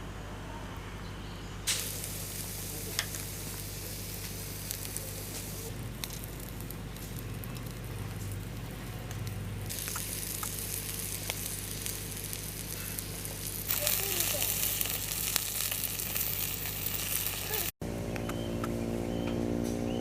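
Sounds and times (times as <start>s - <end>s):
food sizzling in frying: 1.7s - 17.8s.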